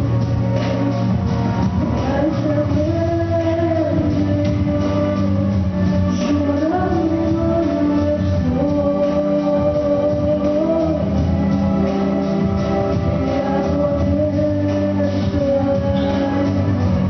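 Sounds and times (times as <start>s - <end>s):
backing track: 0.0s - 17.0s
woman singing: 1.8s - 17.0s.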